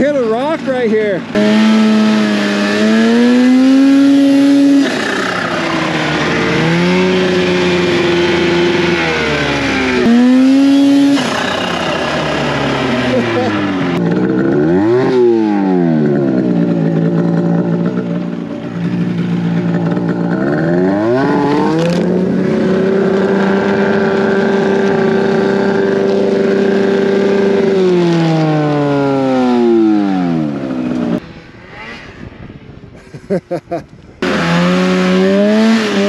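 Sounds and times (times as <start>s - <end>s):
snowmobile engine revving: 0.0s - 32.4s, 33.0s - 36.0s.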